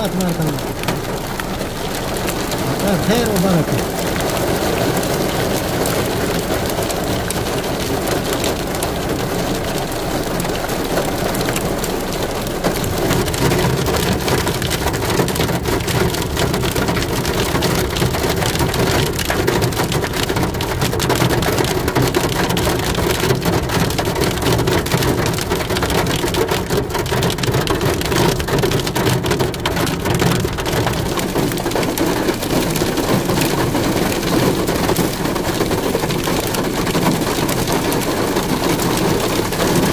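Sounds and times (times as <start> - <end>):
heavy rain falling: 0.0 - 39.9
raindrops striking close by: 0.0 - 39.9.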